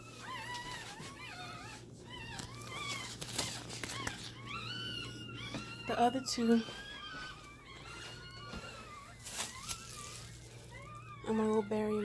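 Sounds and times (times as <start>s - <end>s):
newborn animals squealing: 0.0s - 12.0s.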